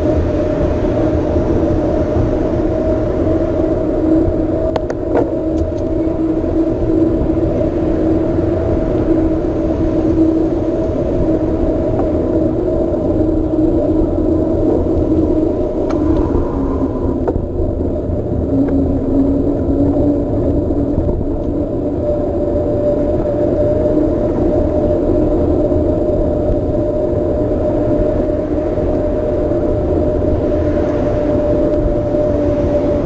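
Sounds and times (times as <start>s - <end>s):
bicycle tyre hum: 0.0s - 33.0s
low rumble: 0.0s - 33.0s.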